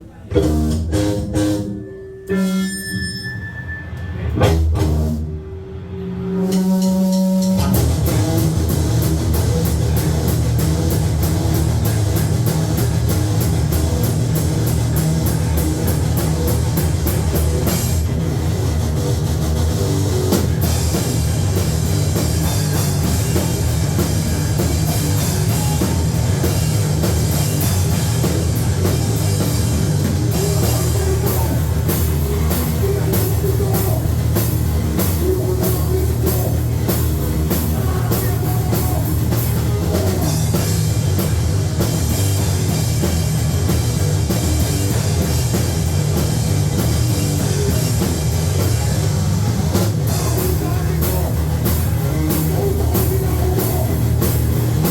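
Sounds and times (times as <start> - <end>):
pounding drum kit: 0.0 - 1.9, 4.2 - 54.9
distorted guitar: 0.0 - 54.9
heavy bass: 0.0 - 54.9.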